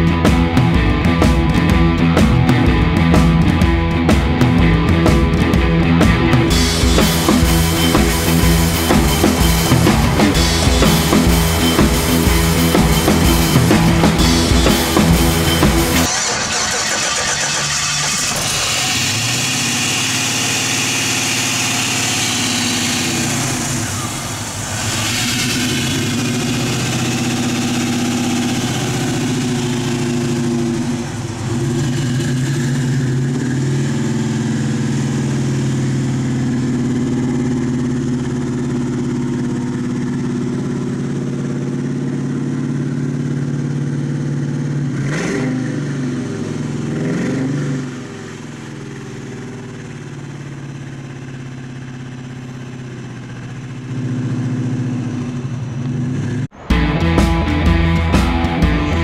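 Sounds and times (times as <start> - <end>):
car engine idling: 0.0 - 59.0
engine throttle blips: 0.0 - 59.0.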